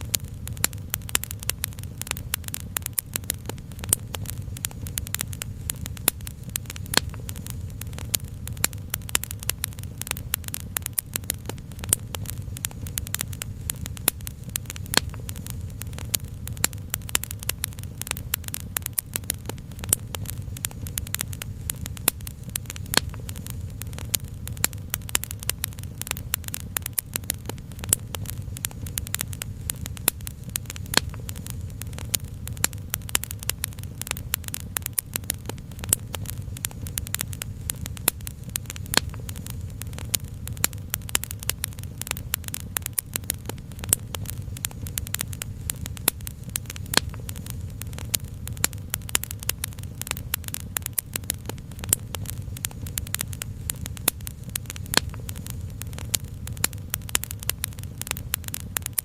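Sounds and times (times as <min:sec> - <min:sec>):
low rumble: 0:00.0 - 0:50.5
fire crackling and popping: 0:00.0 - 0:59.0.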